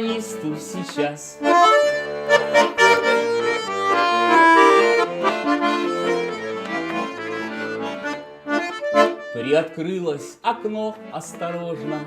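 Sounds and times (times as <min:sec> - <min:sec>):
accordion playing: 0:00.0 - 0:12.0.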